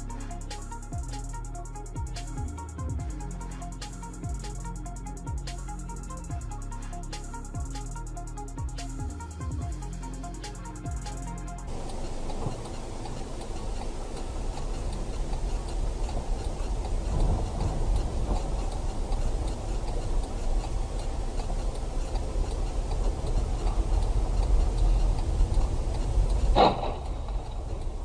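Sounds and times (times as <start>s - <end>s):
faint regular ticking: 0.0s - 26.5s
vehicle and road rumble: 0.0s - 28.0s.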